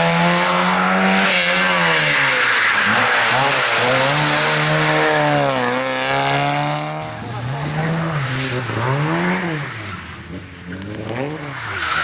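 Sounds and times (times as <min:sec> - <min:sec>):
racing car engine under load: 0:00.0 - 0:12.0.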